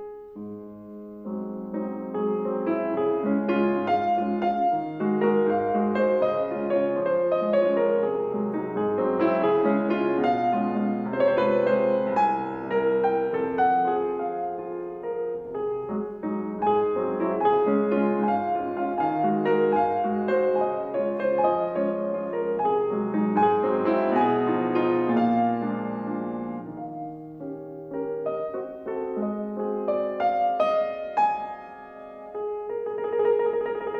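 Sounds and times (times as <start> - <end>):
classical piano solo: 0.0 - 33.9.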